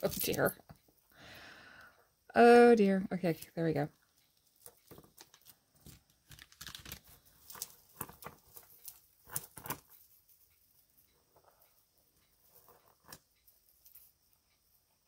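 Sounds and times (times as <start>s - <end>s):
jewelry clicking and rustling: 0.0s - 1.1s, 3.4s - 15.0s.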